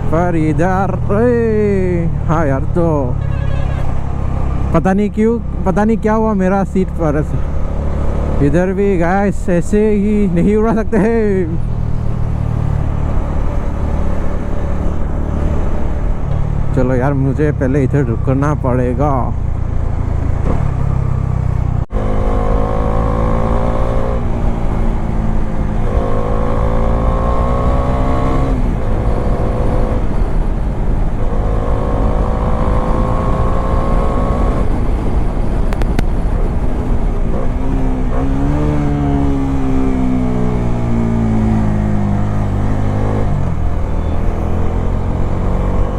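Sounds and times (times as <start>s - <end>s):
motorcycle engine accelerating: 3.9s - 45.9s.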